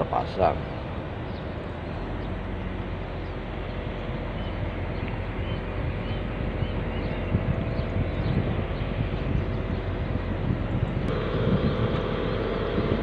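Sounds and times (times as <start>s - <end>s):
mechanical drone with low hum: 0.0s - 13.0s.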